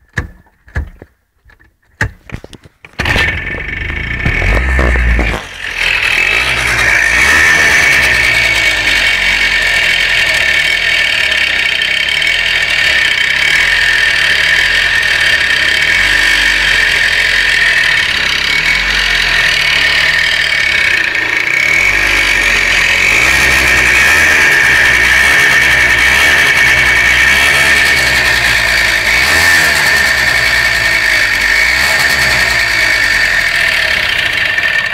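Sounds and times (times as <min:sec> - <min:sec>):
engine running: 0:02.3 - 0:34.9
engine knocking noise: 0:02.9 - 0:34.9.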